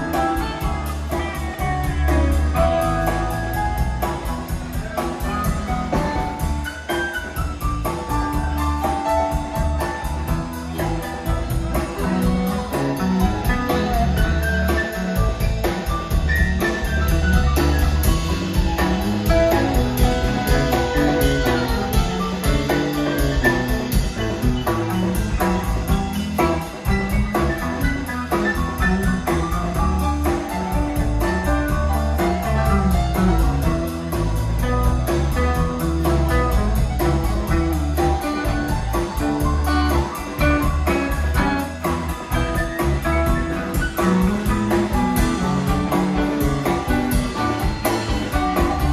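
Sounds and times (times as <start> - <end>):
drum kit: 0.0 - 48.9
electric bass: 0.0 - 48.9
electric guitar: 0.0 - 48.9
keyboard: 0.0 - 48.9.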